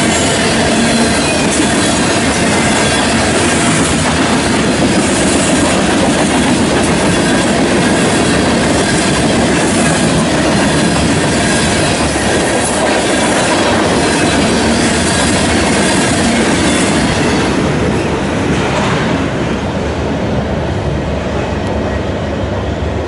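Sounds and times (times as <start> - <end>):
freight train rolling past: 0.0 - 23.0
steel wheels on rail: 0.0 - 23.0.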